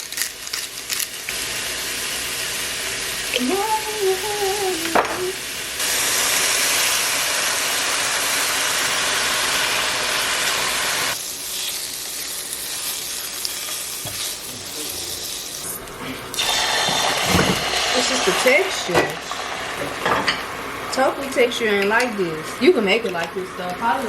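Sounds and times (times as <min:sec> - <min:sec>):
mushrooms sizzling in a pan: 0:00.0 - 0:24.0.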